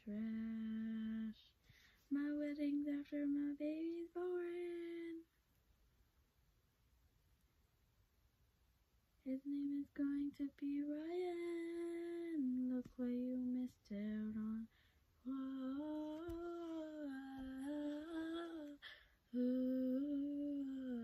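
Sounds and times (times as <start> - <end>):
girl singing wordless melody: 0.0 - 5.3, 9.2 - 21.0.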